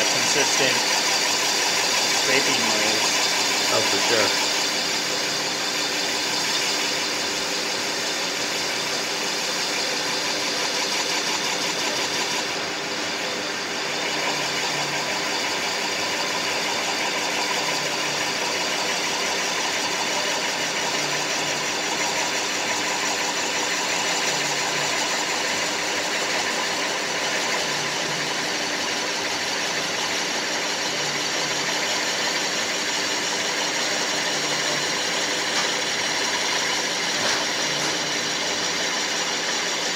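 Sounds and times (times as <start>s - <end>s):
lathe motor hum: 0.0s - 39.9s
lathe tool scraping cut: 0.0s - 39.9s.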